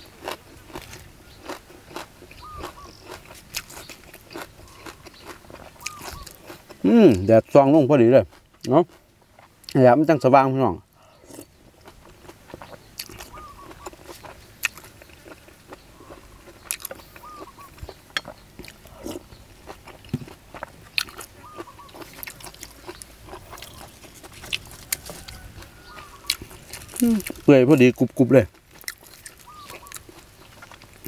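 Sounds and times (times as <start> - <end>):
chewing crunchy food: 0.0 - 10.2, 10.8 - 31.0.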